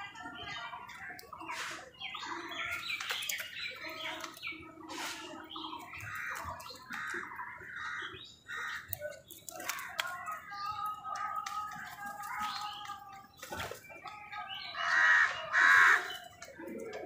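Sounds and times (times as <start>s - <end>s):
crows and birds calling: 0.0s - 17.0s.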